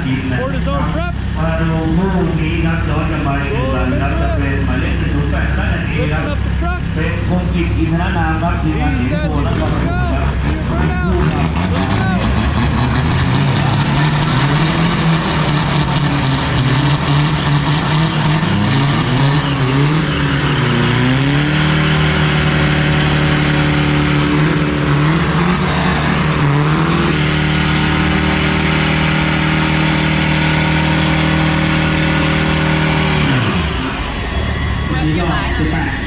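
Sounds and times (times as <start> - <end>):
diesel truck engines revving: 0.0 - 36.0.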